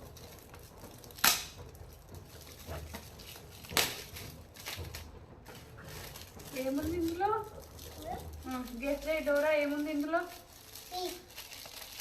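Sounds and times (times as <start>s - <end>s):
wrapping rustling: 0.0s - 12.0s
wrapping paper ripping: 2.3s - 12.0s.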